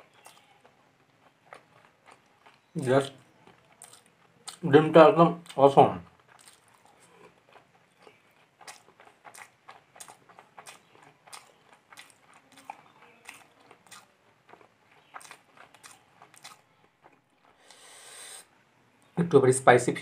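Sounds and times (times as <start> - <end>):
wet mouth chewing sounds: 0.0 - 18.5.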